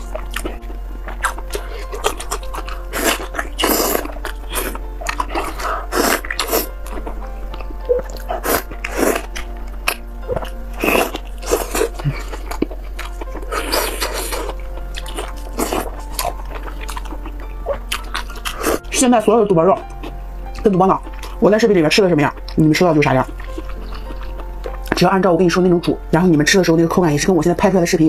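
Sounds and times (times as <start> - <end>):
wet chewing and squelching: 0.0 - 18.9, 19.6 - 21.5, 22.1 - 25.1
faint background music: 0.0 - 28.0.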